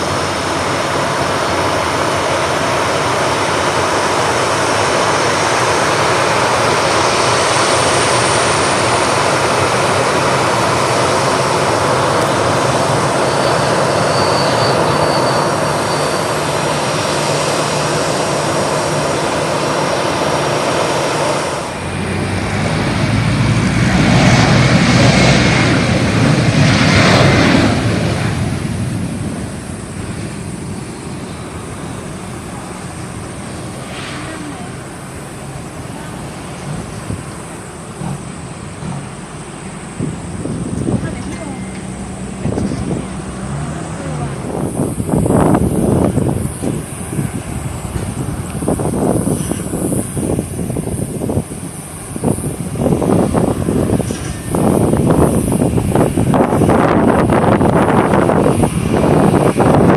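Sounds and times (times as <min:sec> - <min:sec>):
faint high whine: 0:00.0 - 0:59.9
jet engines running: 0:00.0 - 0:59.9.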